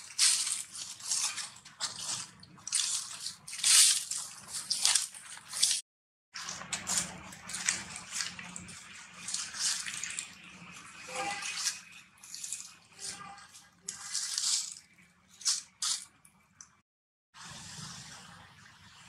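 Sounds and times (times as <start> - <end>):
dry leaves crackling and rustling: 0.0 - 5.8, 6.4 - 16.2.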